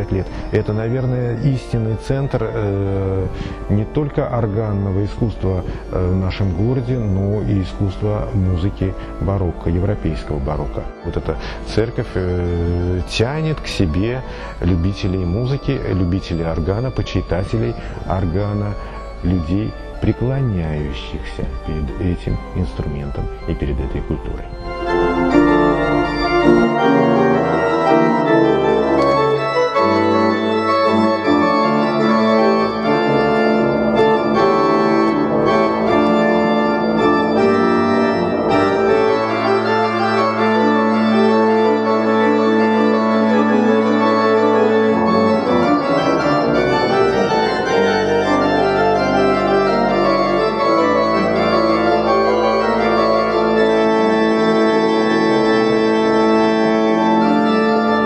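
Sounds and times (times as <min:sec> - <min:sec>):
pipe organ: 0:00.0 - 0:58.0.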